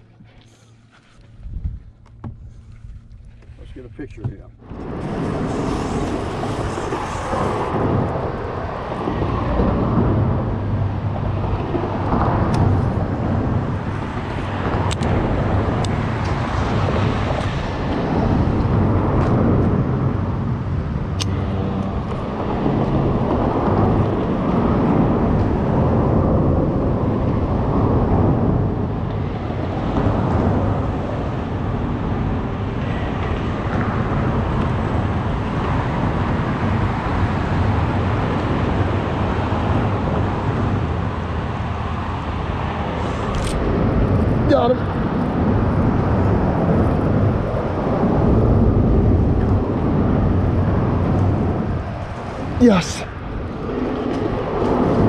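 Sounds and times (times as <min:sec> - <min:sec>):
traffic rumble on bridge: 0:00.0 - 0:55.0.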